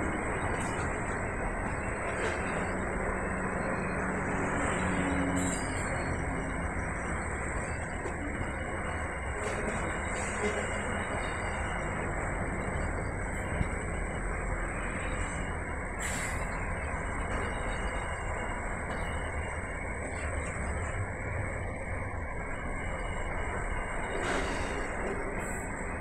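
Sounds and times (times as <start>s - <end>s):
freight train wagons rolling: 0.0s - 26.0s.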